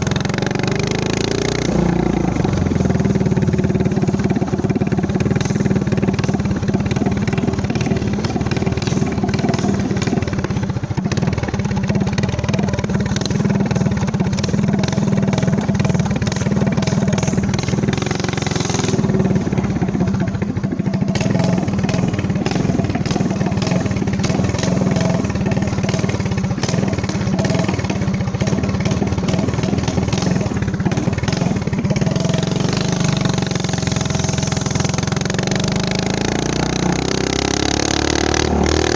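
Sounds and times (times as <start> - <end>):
minibike engine running: 0.0 - 38.9.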